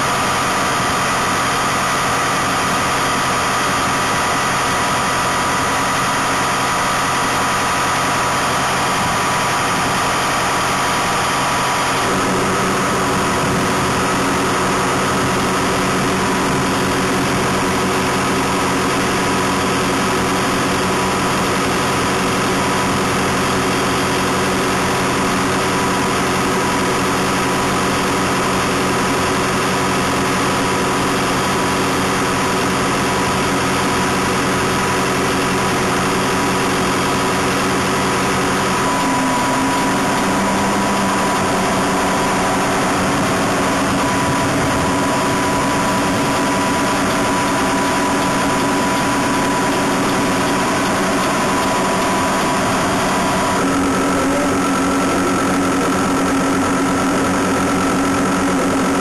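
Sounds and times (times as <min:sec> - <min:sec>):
harvester engine and machinery: 0:00.0 - 0:59.0.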